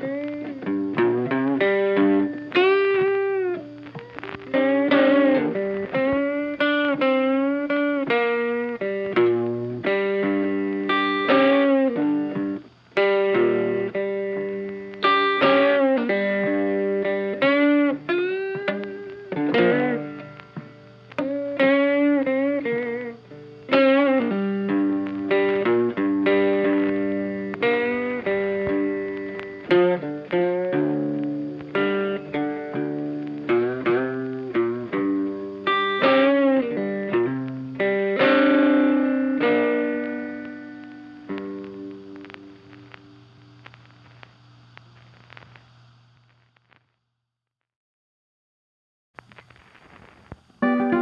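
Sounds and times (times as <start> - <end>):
electric guitar music: 0.0 - 46.2, 49.2 - 51.0.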